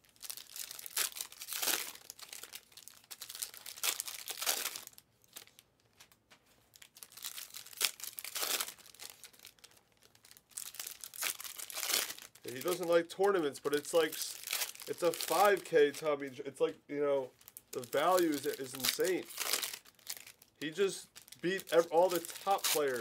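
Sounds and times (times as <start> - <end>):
foil wrappers crinkling and tearing: 0.0 - 6.0, 6.6 - 16.3, 17.3 - 23.0.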